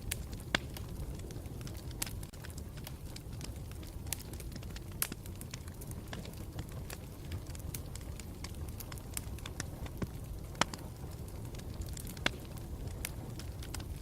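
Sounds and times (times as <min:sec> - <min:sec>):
burning wood crackling and popping: 0:00.0 - 0:14.0
campfire burning: 0:00.0 - 0:14.0.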